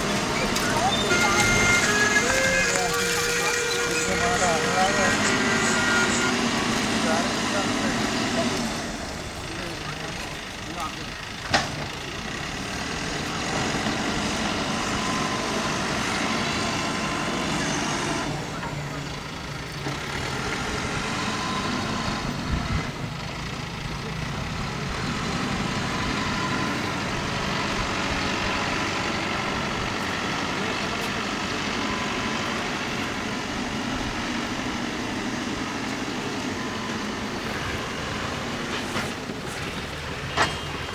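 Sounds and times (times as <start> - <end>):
diesel engines running: 0.0 - 40.9.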